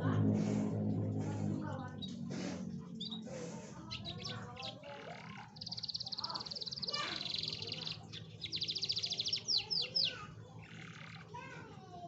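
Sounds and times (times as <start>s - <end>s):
canary singing trills: 1.6s - 11.5s.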